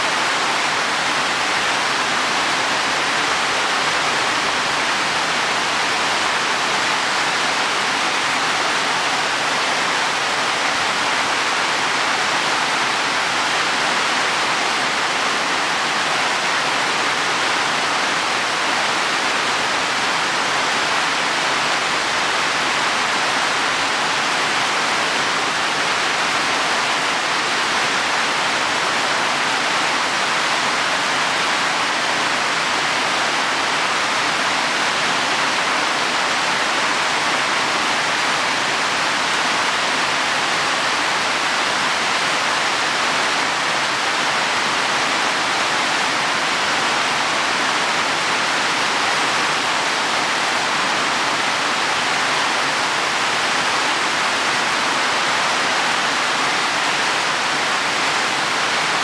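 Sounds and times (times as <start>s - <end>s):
heavy rain on leaves and soil: 0.0s - 59.0s.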